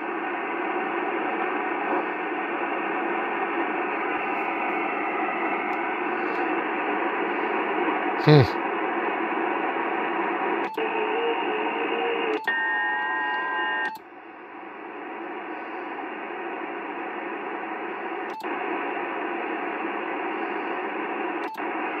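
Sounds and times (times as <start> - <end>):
radio receiver hiss: 0.0 - 13.8, 14.8 - 22.0.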